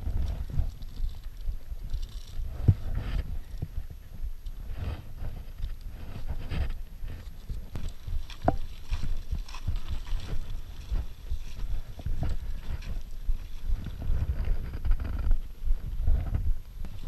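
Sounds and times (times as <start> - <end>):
bike knocking and rattling: 0.0 - 17.0
wind rumbling on microphone: 0.0 - 17.0.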